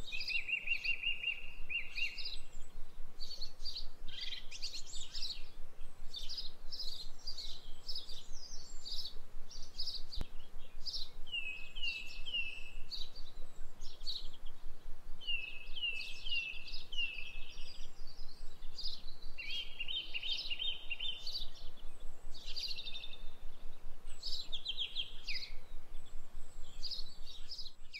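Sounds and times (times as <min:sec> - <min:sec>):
birds singing and chirping: 0:00.0 - 0:27.9.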